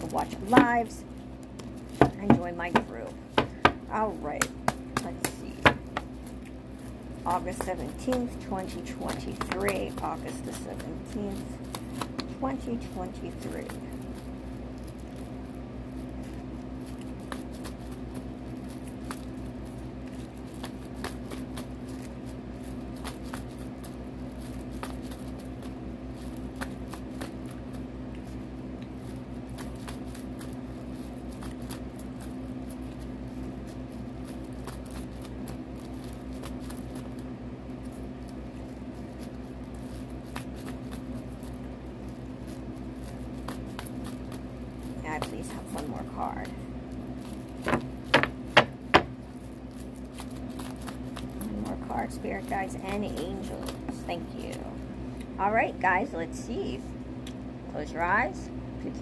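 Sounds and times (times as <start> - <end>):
cards shuffled by hand: 0.0 - 55.2
steady low hum: 0.0 - 59.0.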